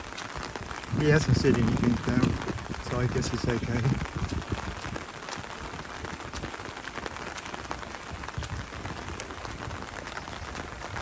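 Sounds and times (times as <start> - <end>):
heavy rain: 0.0 - 11.0
raindrops ticking close by: 0.0 - 11.0.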